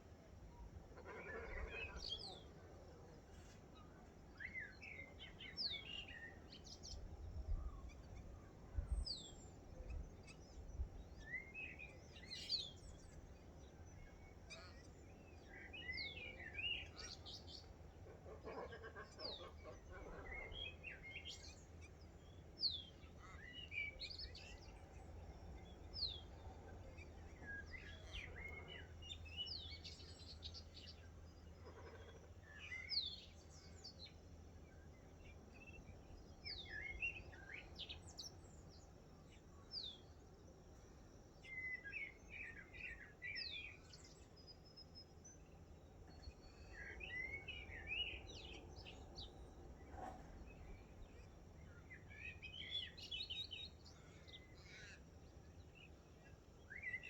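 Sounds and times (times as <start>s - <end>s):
birds chirping and twittering: 0.2s - 57.0s.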